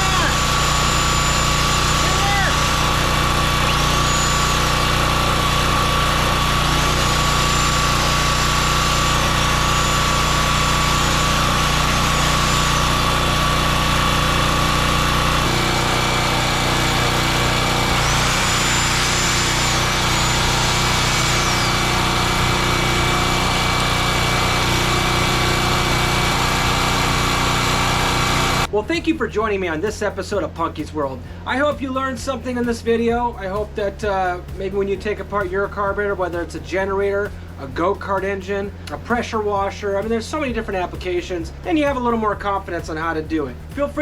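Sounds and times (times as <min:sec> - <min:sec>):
portable generator engine running: 0:00.0 - 0:44.0.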